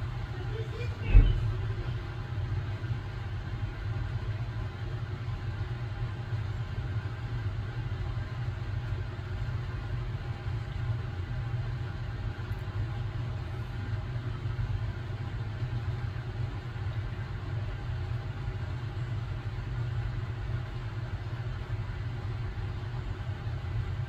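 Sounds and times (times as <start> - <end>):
faint hum: 0.0 - 24.0
low background rumble: 0.0 - 24.0.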